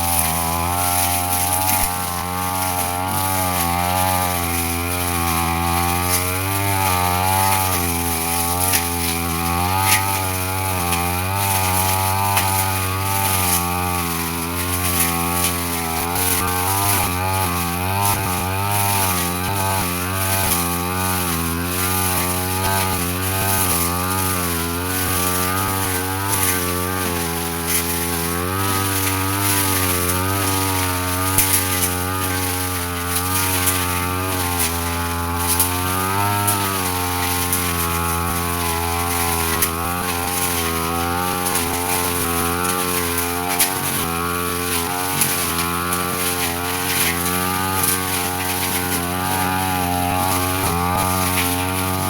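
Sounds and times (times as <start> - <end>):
brush cutter engine cutting grass: 0.0 - 52.0.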